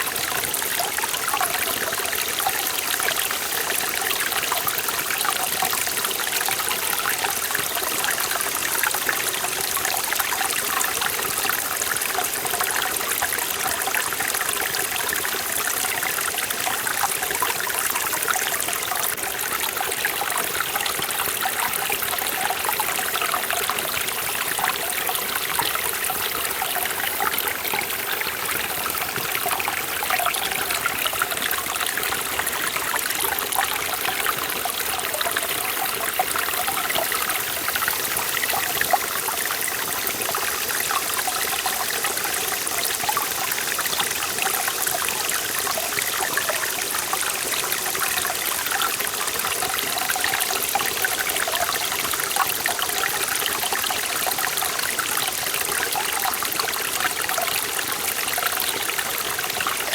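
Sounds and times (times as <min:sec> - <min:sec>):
stream rushing over rocks: 0:00.0 - 0:59.9
water splashing and trickling: 0:00.0 - 0:59.9.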